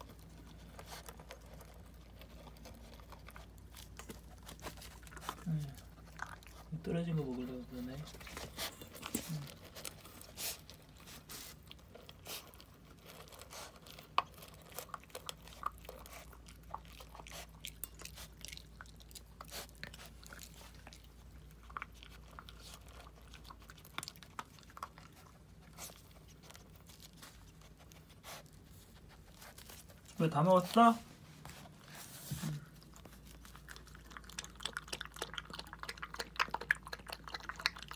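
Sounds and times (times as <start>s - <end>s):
pet crunching dry kibble: 0.0s - 37.9s.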